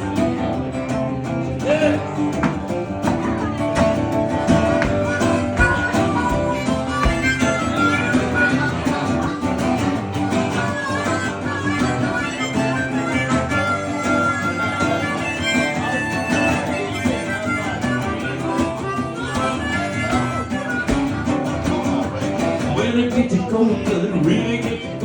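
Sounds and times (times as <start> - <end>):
harmonica melody: 0.0 - 25.0
strummed acoustic guitar: 0.0 - 25.0.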